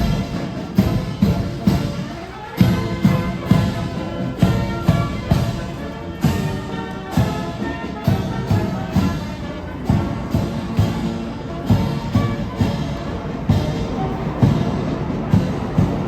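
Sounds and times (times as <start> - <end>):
bass drum beating: 0.0 - 16.0
marching band brass: 0.0 - 16.0.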